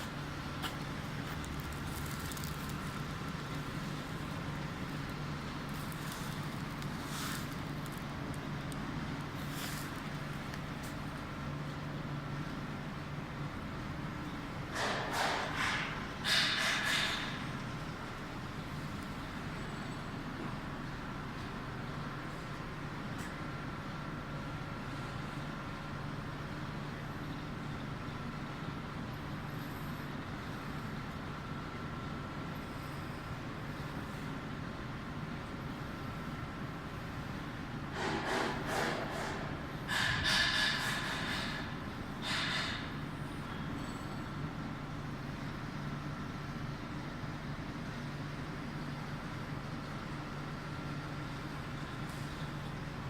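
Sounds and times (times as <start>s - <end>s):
car wash machinery humming: 0.0s - 53.0s.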